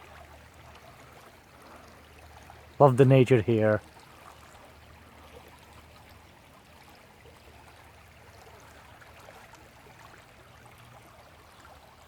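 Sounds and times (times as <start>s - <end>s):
faint running creek water: 0.0s - 12.0s.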